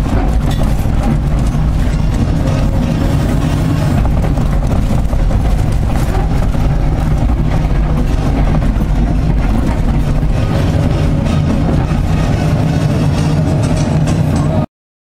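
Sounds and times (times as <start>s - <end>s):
excavator diesel engine running: 0.0s - 14.7s.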